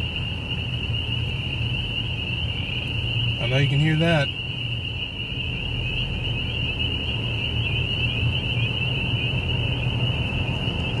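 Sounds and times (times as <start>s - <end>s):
car driving rumble: 0.0s - 11.0s
cicadas chorus: 0.0s - 11.0s.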